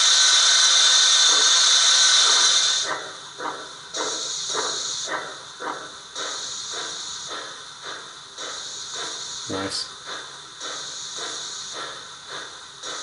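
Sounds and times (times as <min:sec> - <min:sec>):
model steam locomotive chuffs: 0:00.0 - 0:13.0
model steam locomotive hiss: 0:00.0 - 0:13.0.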